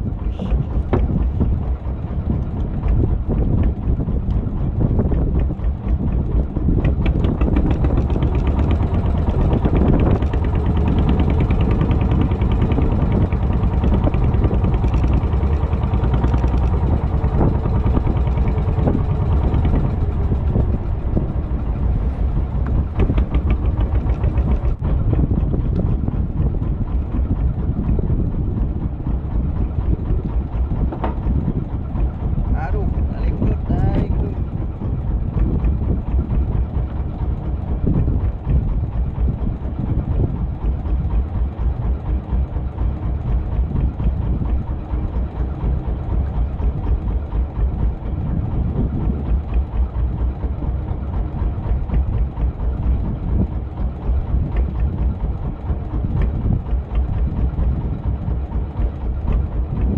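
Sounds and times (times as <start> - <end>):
boat engine running: 0.0 - 59.9
waves splashing against hull: 0.0 - 59.9.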